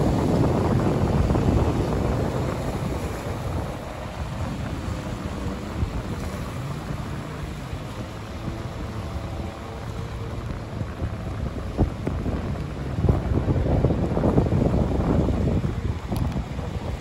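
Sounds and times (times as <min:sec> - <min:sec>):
distant jet ski engines: 0:00.0 - 0:17.0
wind on microphone: 0:00.0 - 0:17.0.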